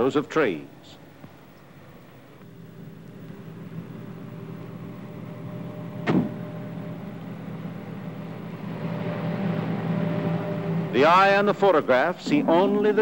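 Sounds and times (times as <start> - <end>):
truck engine running: 2.4 - 13.0.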